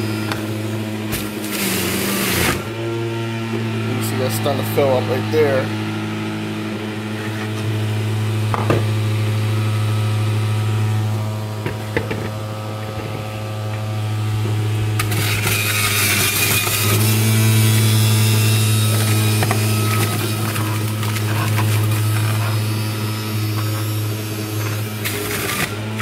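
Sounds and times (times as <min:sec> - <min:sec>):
juicer motor humming: 0:00.0 - 0:26.0
juicer shredding produce: 0:00.0 - 0:26.0.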